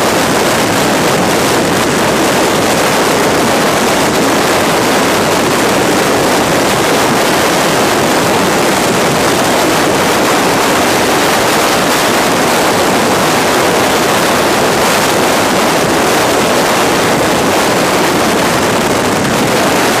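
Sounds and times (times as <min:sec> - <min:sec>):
freefall wind rushing: 0:00.0 - 0:20.0.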